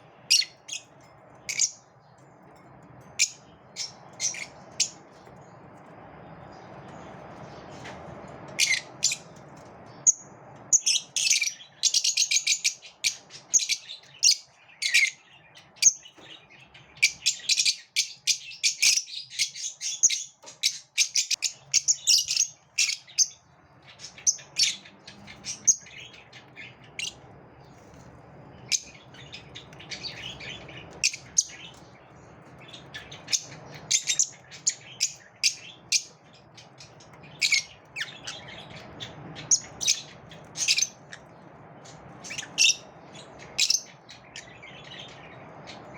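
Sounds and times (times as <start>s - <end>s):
lovebirds chirping: 0.0s - 45.9s.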